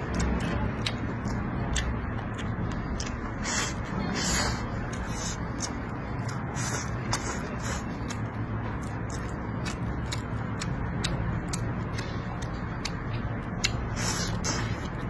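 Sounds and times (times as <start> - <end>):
chewing with wet mouth smacks: 0.0 - 15.0
steady low hum: 0.0 - 15.0.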